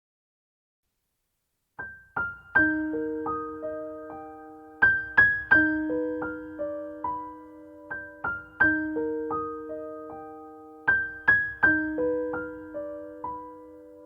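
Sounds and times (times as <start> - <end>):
slow solo piano: 1.8 - 14.0.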